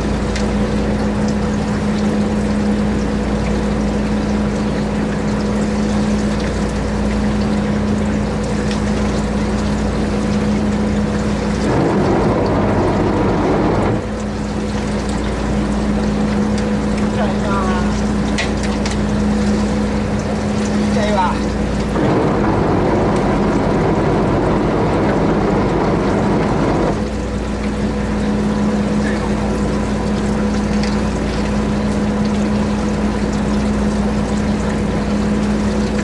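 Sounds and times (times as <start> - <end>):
boat engine droning: 0.0 - 36.0
water rushing: 0.0 - 36.0.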